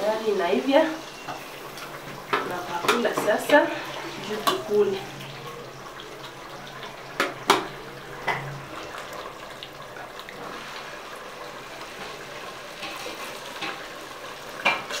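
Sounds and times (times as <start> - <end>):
stew pouring and splashing: 1.0 - 15.0.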